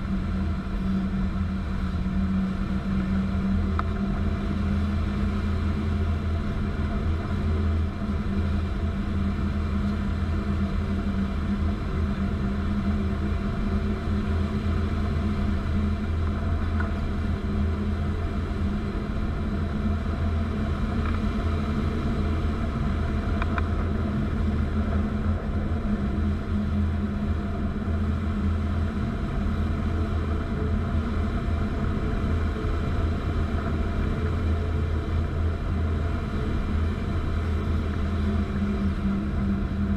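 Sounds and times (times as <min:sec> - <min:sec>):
airflow rush in cockpit: 0:00.0 - 0:39.9.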